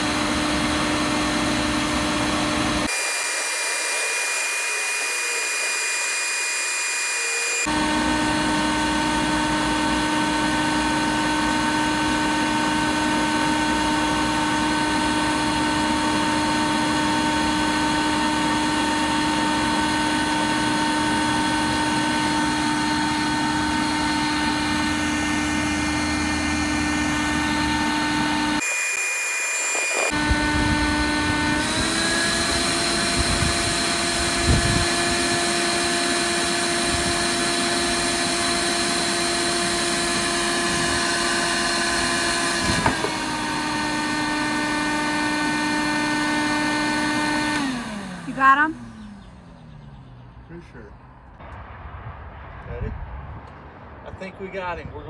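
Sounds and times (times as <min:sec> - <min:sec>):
electric blower motor drone: 0:00.0 - 0:50.3.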